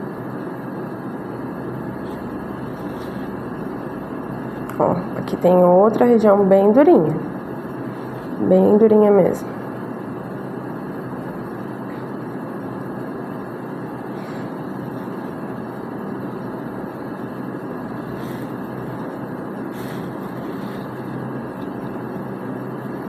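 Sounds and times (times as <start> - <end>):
low rushing background noise: 0.0 - 23.0.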